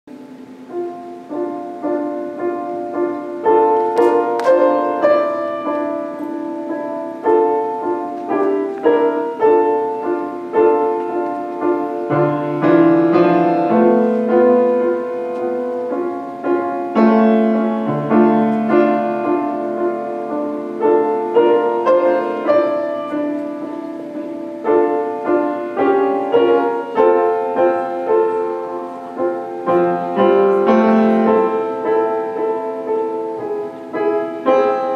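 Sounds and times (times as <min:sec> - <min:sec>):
grand piano melody: 0:00.1 - 0:34.9.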